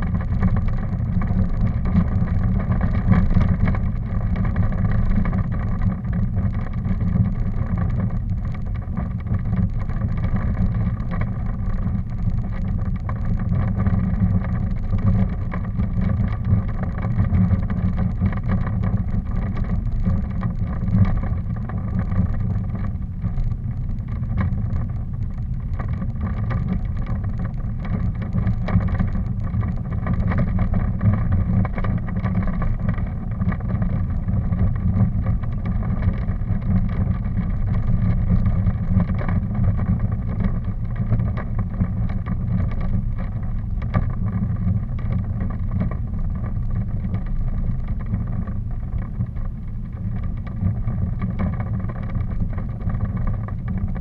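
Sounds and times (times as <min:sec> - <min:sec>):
low rumble of travel: 0:00.0 - 0:54.0
wind on microphone: 0:00.0 - 0:54.0.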